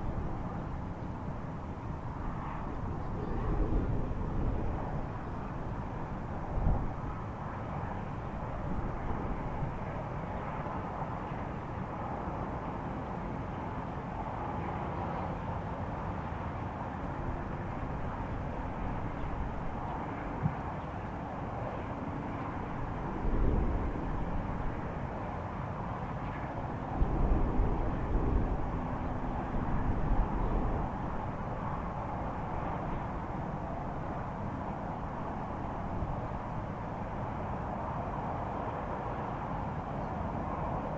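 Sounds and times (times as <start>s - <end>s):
low rumbling drone from sky: 0.0s - 40.9s.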